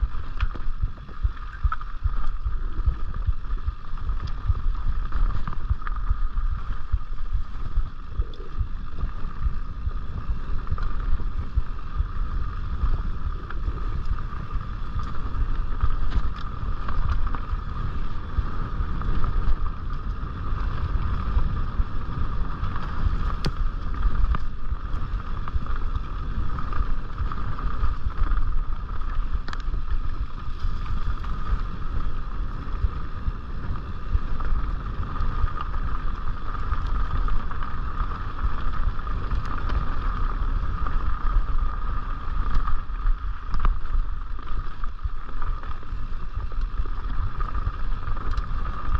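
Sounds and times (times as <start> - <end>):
bike clicks and rattles: 0.0 - 48.9
bike tyres rumbling on dirt: 0.0 - 48.9
wind noise on microphone: 0.0 - 48.9.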